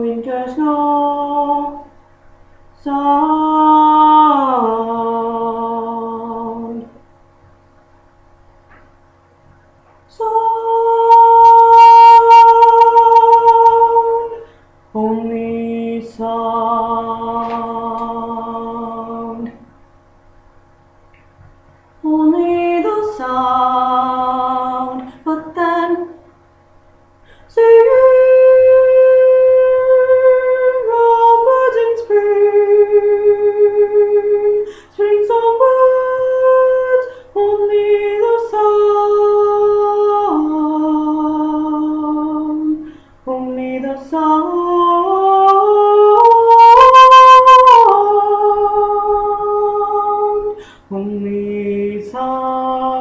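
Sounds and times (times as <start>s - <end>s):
woman singing unaccompanied: 0.0s - 2.0s, 2.7s - 7.0s, 10.1s - 19.7s, 22.0s - 26.3s, 27.5s - 53.0s.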